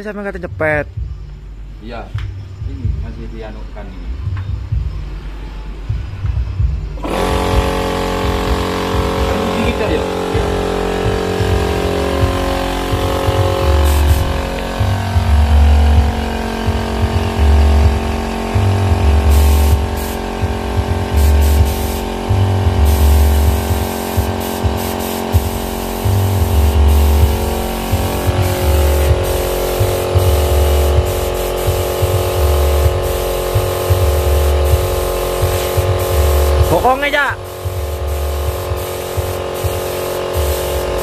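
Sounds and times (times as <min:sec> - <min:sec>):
low thudding pulse: 0:04.1 - 0:41.0
steady hum: 0:04.1 - 0:41.0
spray gun hissing: 0:07.0 - 0:41.0.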